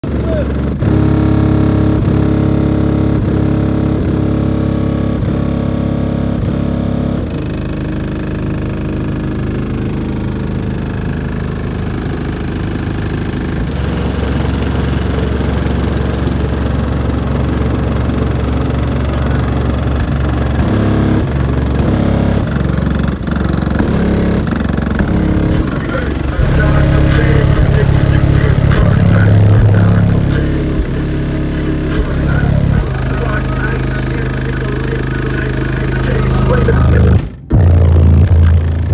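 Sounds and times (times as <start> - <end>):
loud deep bass music: 0.0 - 38.9.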